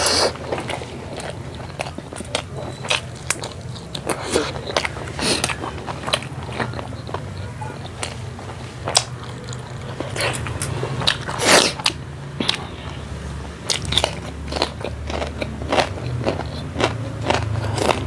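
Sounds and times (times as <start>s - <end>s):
food crunching while chewing: 0.0s - 18.0s.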